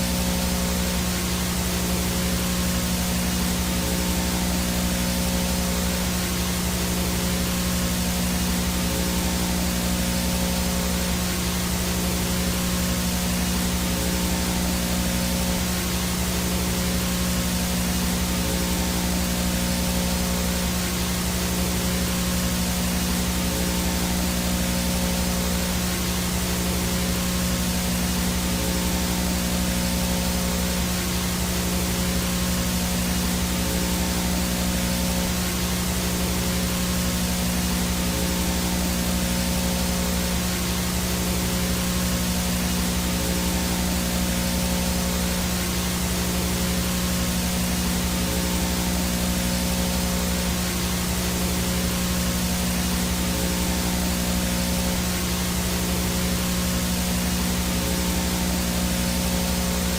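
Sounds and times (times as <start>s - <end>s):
static white noise hiss: 0.0s - 59.9s.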